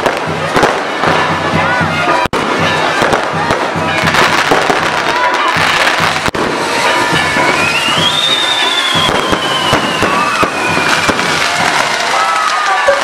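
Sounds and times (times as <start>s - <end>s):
fireworks crackling and popping: 0.0s - 13.0s
firework whistling: 2.2s - 13.0s.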